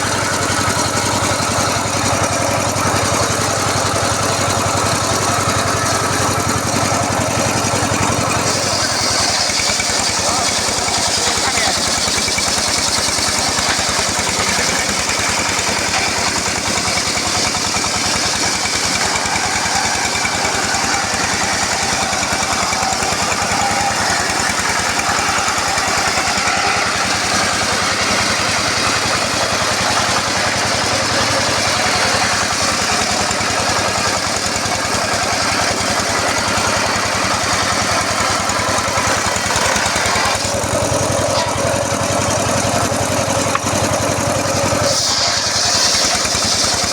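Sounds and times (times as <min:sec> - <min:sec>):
circular saw blade cutting log: 0:00.0 - 0:46.9
engine hum: 0:00.0 - 0:46.9.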